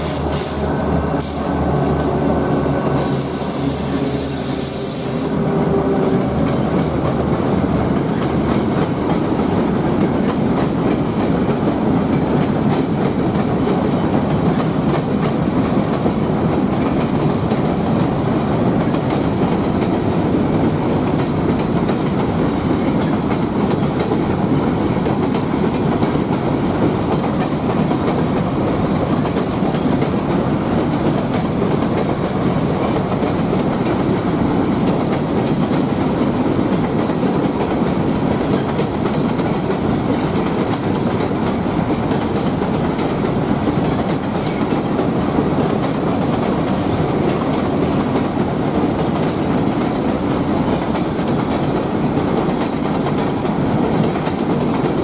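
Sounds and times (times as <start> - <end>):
freight train rumbling over bridge: 0.0 - 55.0.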